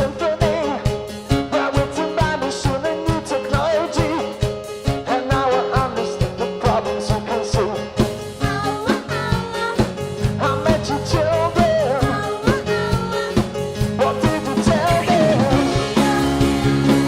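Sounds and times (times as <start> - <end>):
band playing upbeat song: 0.0 - 17.0
lead singer singing: 0.0 - 17.0
steady drum beat: 0.0 - 17.0.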